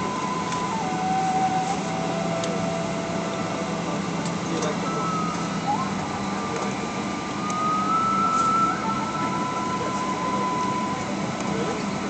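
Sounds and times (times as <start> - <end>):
airliner cabin air rush and hum: 0.0 - 12.0
high wavering whine: 0.0 - 12.0.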